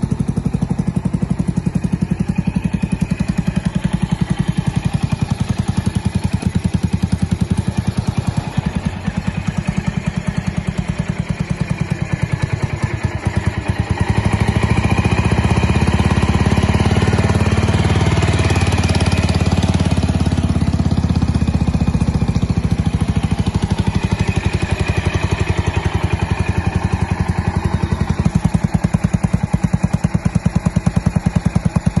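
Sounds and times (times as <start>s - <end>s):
scooter engine idling and revving: 0.0s - 32.0s.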